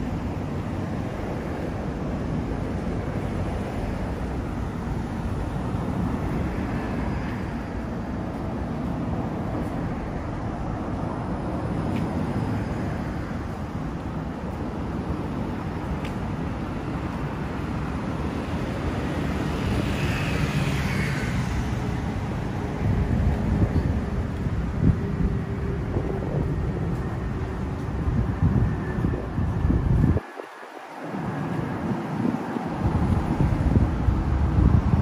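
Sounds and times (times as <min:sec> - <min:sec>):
hum of road traffic: 0:00.0 - 0:35.0.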